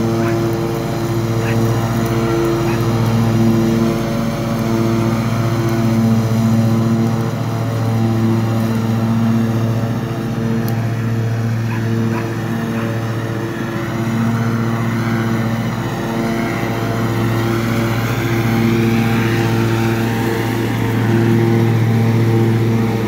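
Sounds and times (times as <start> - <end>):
riding lawn mower engine: 0.0 - 23.0.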